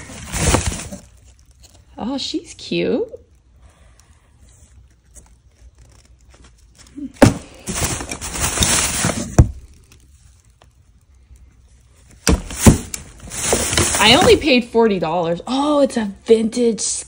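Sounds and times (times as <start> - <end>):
rustling and crinkling in a box: 0.0 - 3.2, 4.3 - 14.9.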